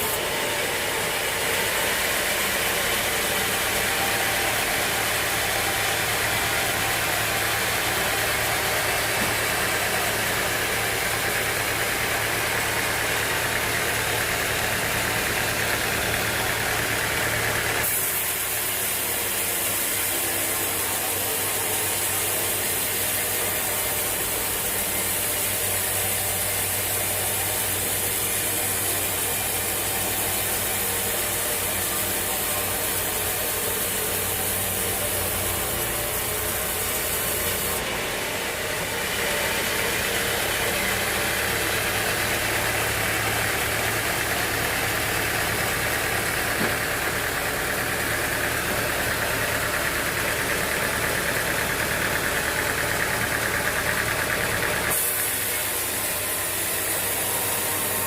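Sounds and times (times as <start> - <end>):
hissing cutting noise: 0.0 - 58.0
sawmill engine hum: 0.0 - 58.0.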